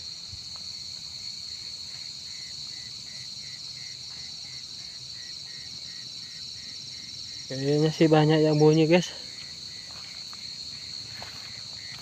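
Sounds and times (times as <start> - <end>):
high continuous cricket trill: 0.0 - 12.0
lower pulsing cricket chirp: 0.0 - 12.0.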